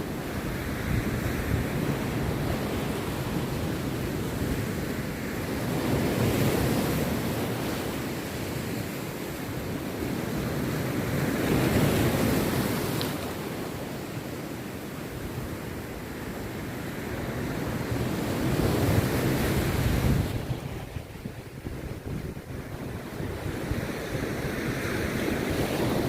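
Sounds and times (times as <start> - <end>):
sea waves breaking on beach: 0.0 - 26.0.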